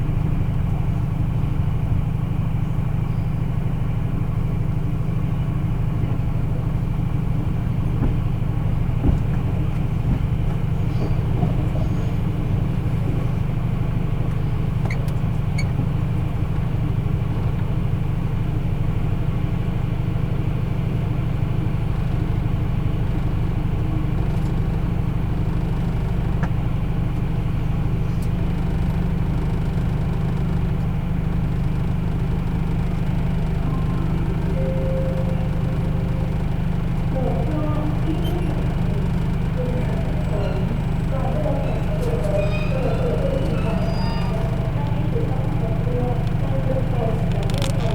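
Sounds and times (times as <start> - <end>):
diesel train engine idling: 0.0 - 47.9.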